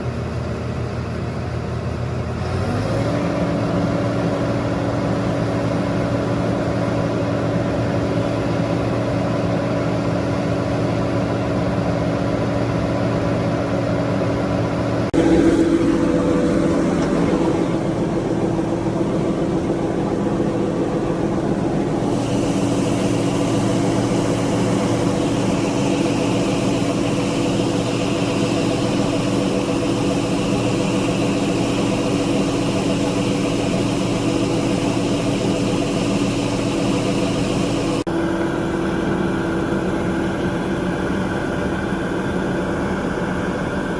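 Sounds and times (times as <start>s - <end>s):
diesel engine running under load: 0.0s - 43.9s.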